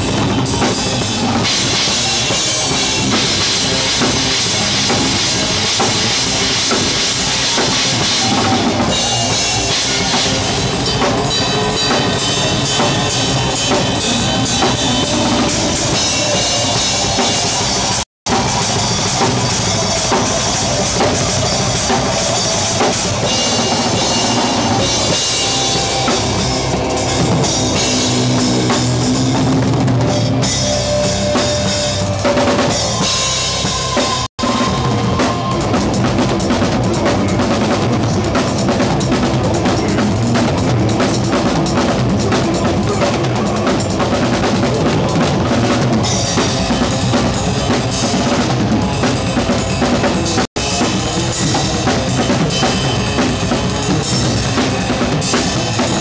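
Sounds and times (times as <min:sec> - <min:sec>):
band playing: 0:00.0 - 0:56.0
fast heavy drumming: 0:00.0 - 0:56.0.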